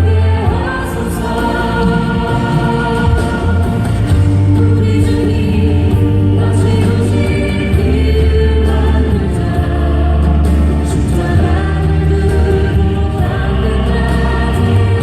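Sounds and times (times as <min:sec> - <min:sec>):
choir singing a hymn: 0:00.0 - 0:15.0
instrumental accompaniment: 0:00.0 - 0:15.0.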